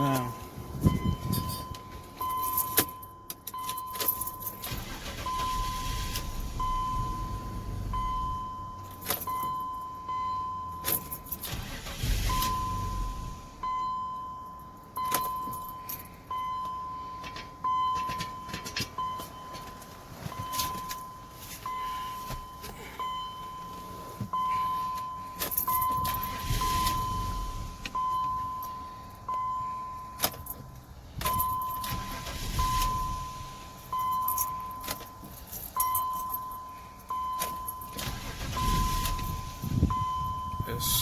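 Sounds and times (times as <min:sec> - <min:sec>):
car engine cranking and dying: 0:00.0 - 0:41.0
car warning beep: 0:00.0 - 0:41.0.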